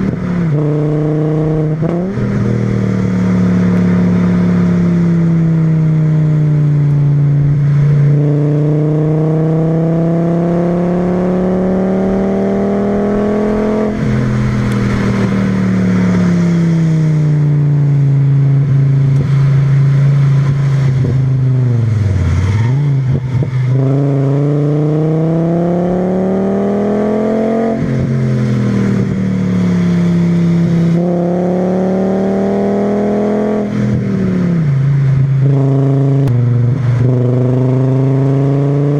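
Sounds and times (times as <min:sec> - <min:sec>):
car engine accelerating through gears: 0:00.0 - 0:38.9.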